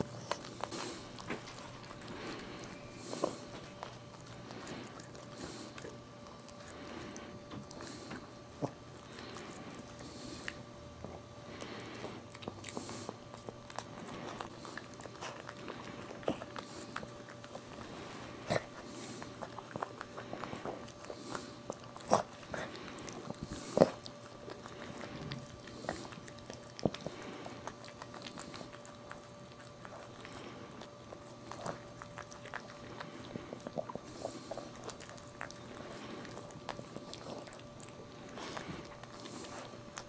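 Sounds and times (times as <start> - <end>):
dog licking puppy: 0.0 - 40.0.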